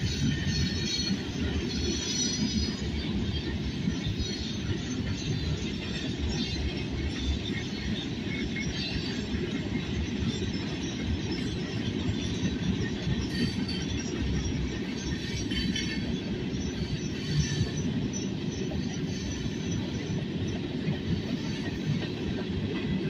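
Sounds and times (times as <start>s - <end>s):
train wheels rumbling on track: 0.0s - 23.0s
wheel squeals: 0.0s - 23.0s.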